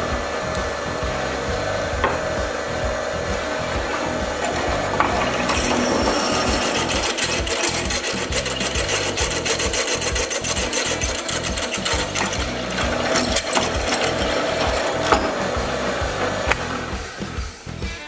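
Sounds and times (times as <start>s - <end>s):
drill press cutting metal: 0.0s - 17.6s.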